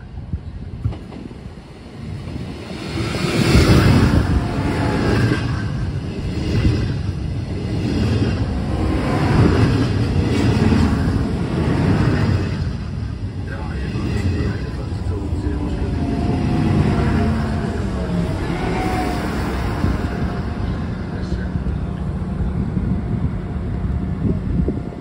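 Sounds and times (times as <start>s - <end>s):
diesel train passing at speed: 0.0s - 25.0s.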